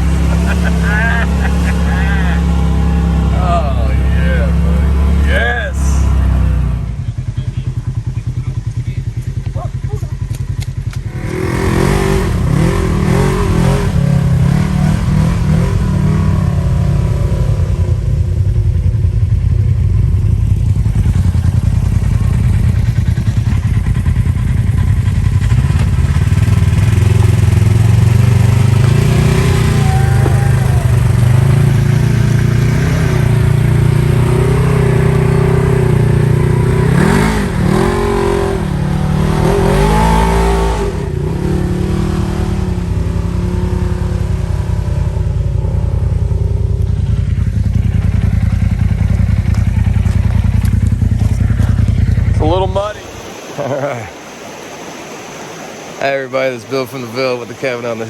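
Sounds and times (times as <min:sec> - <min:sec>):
engine running hard: 0:00.0 - 0:58.0.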